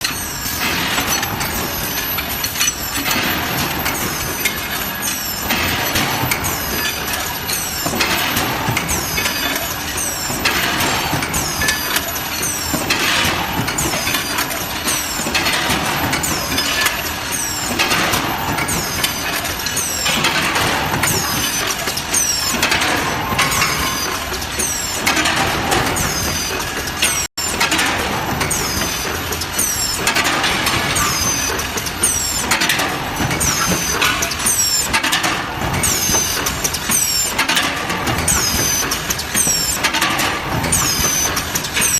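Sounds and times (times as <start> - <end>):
robot arm mechanical noise: 0.0 - 41.9.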